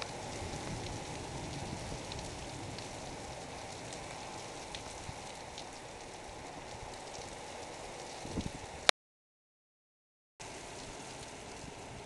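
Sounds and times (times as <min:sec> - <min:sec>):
heavy rain pouring: 0:00.0 - 0:08.9, 0:10.4 - 0:12.0.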